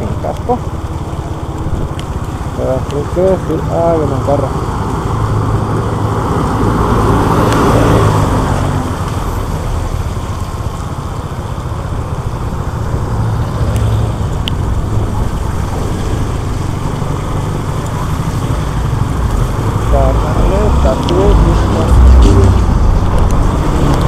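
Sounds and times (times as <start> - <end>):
tyre noise on wet road: 0.0 - 24.0.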